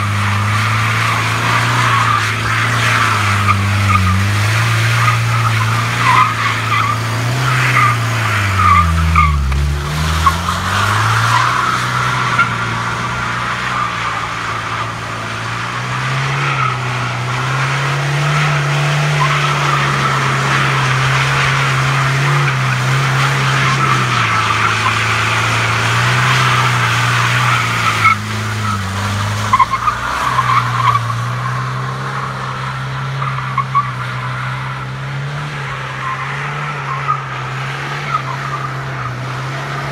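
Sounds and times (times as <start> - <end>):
tyres squealing: 0.0 - 39.3
diesel engine under load: 0.0 - 39.9.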